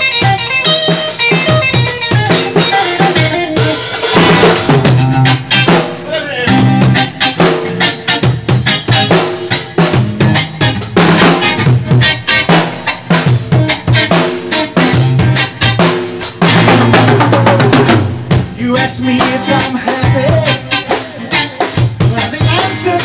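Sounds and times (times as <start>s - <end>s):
drum kit beat: 0.0s - 23.0s
electric guitar through amplifiers: 0.0s - 23.0s.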